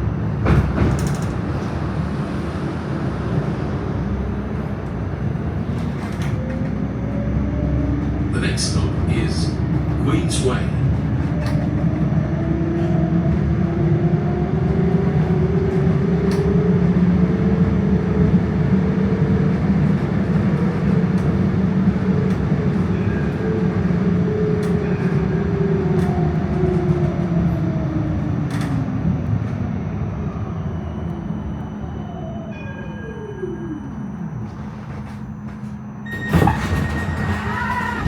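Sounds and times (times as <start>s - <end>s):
steel wheels rumbling on rails: 0.0s - 38.0s
tram motor whining: 0.0s - 38.0s.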